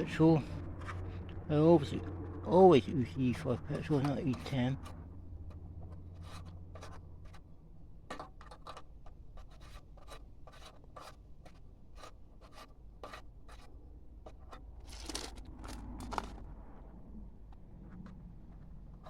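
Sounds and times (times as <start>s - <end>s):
small scrapes and clicks: 0.4s - 2.5s, 3.8s - 7.5s, 8.1s - 16.6s, 17.5s - 19.0s.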